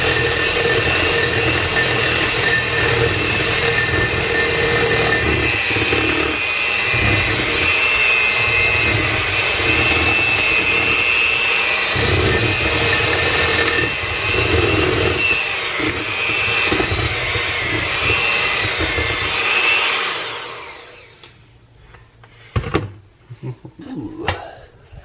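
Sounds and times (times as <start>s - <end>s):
beaters churning batter: 0.0s - 21.2s
electric mixer whining: 0.0s - 21.4s.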